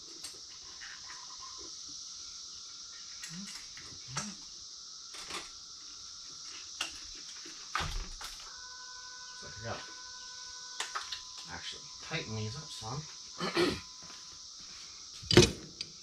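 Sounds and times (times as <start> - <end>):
faint hiss: 0.0 - 15.3.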